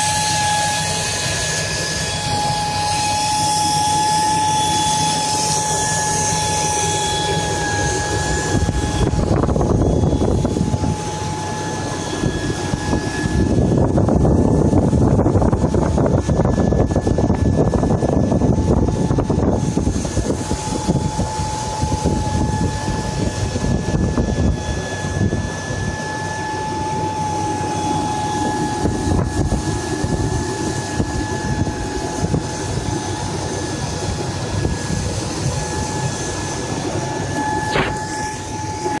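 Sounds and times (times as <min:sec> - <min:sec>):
engine running: 0:00.0 - 0:39.0
high-pitched whine: 0:00.0 - 0:39.0.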